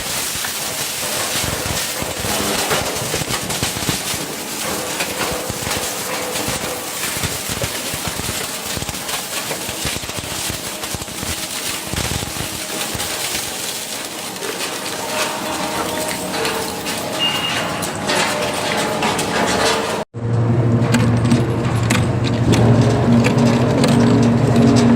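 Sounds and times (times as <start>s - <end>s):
shredder crunching material: 0.0s - 20.1s, 20.7s - 24.9s.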